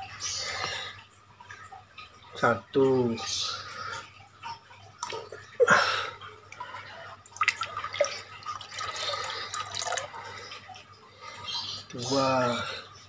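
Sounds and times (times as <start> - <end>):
water dripping and trickling: 0.0 - 13.0
water splashing: 0.0 - 13.0.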